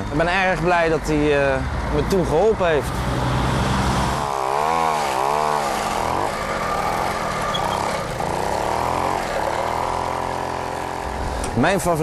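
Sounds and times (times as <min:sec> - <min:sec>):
moped engine revving: 0:01.6 - 0:12.0.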